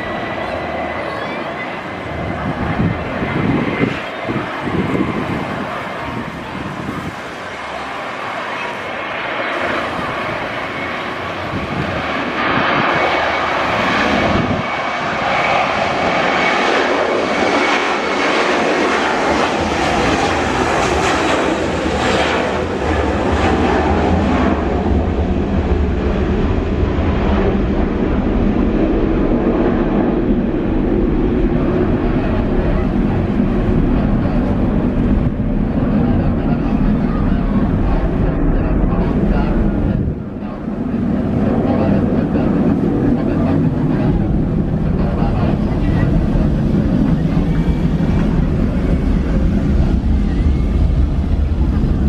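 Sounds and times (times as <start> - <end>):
jet engines roaring: 0.0 - 52.0
deep rumble: 9.7 - 52.0.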